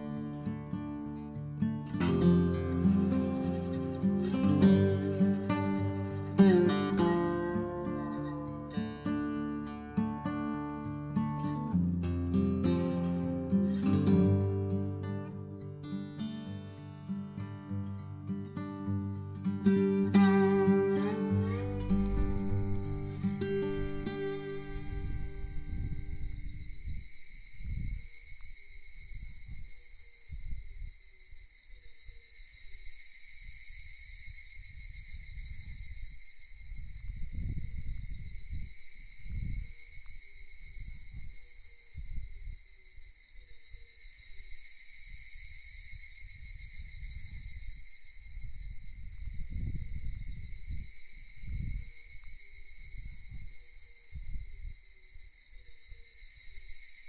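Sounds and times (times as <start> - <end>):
insects singing: 0.0 - 57.0.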